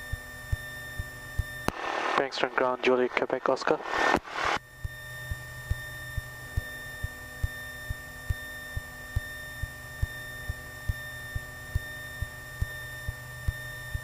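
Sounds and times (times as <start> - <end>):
aircraft engine drone: 0.0 - 14.0
thin electrical whine: 0.0 - 14.0.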